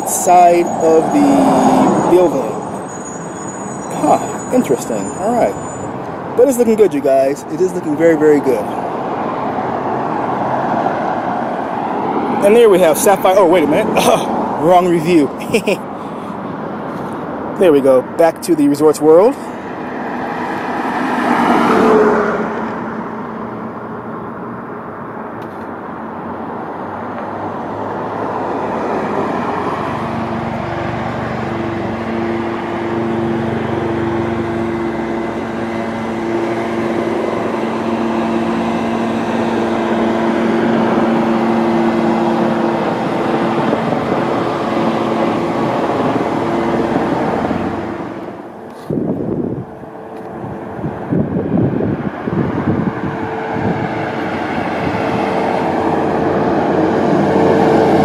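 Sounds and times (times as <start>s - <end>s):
steady engine drone: 0.0s - 58.0s
vehicles passing: 0.0s - 58.0s.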